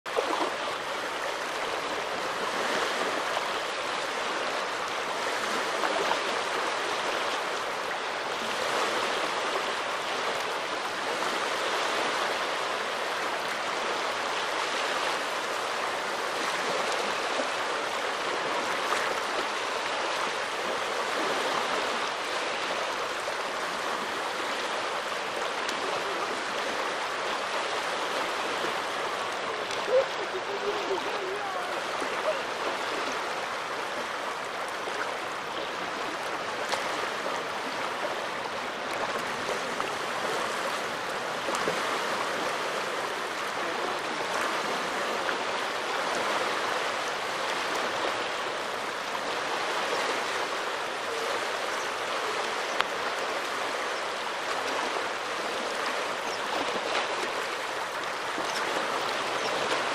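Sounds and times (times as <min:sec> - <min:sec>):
small waves washing ashore: 0:00.1 - 0:59.9.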